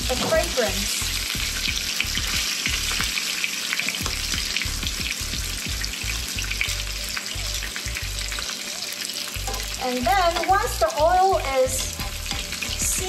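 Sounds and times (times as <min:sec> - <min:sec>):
chicken sizzling in fat: 0:00.0 - 0:13.0.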